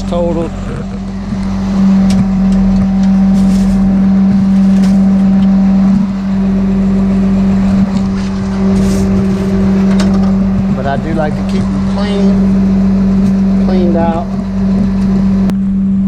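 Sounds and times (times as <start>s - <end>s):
tow truck engine humming: 0.0s - 16.0s.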